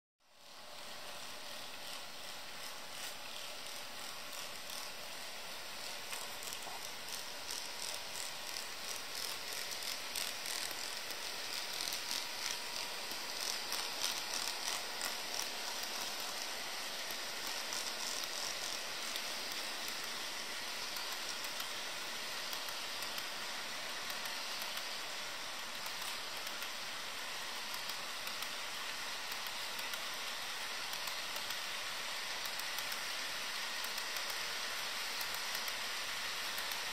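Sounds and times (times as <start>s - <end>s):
model train wheels hissing: 0.5s - 36.9s
small rail clicks: 0.7s - 36.9s.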